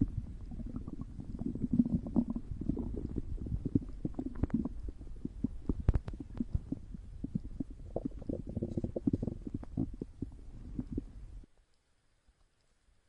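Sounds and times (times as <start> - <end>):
stomach growling: 0.0 - 11.5.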